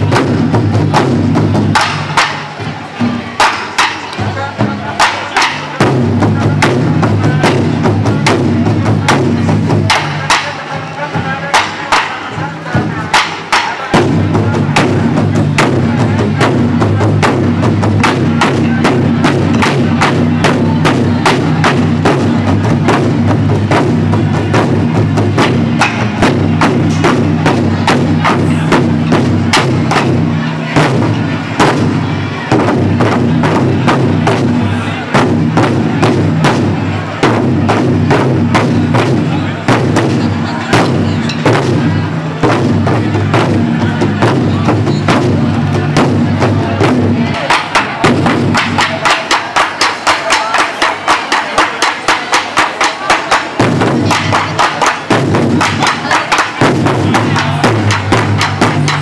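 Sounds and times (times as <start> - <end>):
barrel drums booming: 0.0 - 59.0.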